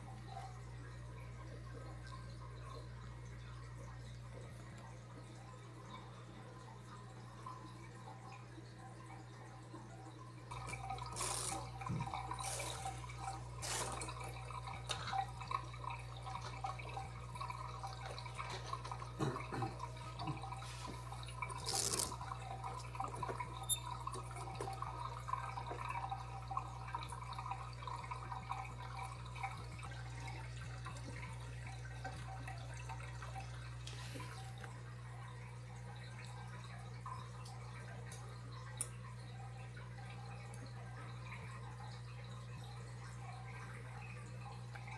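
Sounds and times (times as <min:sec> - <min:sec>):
water trickling and dripping: 0:00.0 - 0:44.9.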